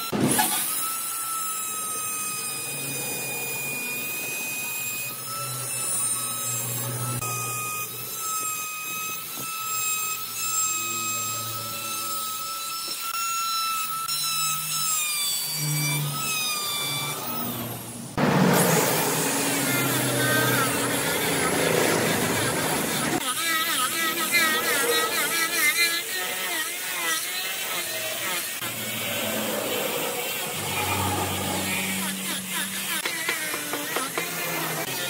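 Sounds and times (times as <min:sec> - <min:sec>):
die grinder carving wood: 0:00.0 - 0:35.0.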